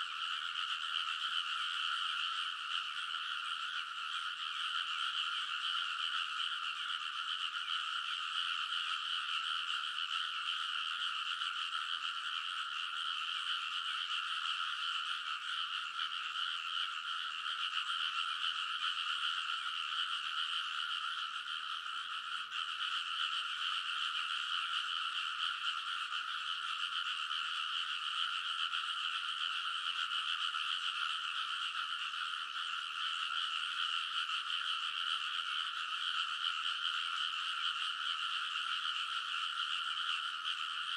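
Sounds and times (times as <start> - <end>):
chorus of frogs calling: 0.0 - 40.9.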